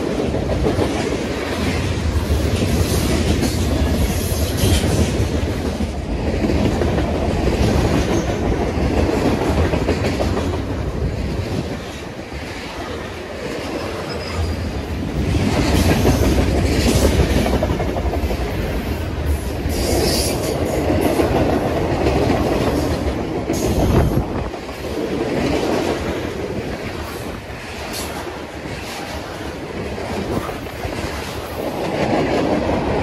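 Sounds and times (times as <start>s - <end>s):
freight train wheels clattering: 0.0s - 33.0s.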